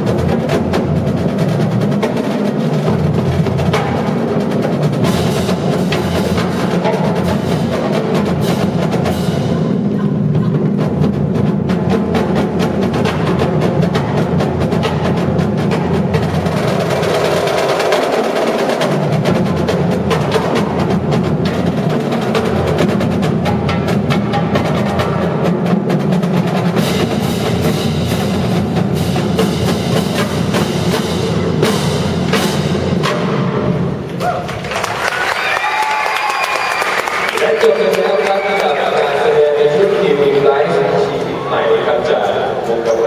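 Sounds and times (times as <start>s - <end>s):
snare drum rolls: 0.0s - 41.4s.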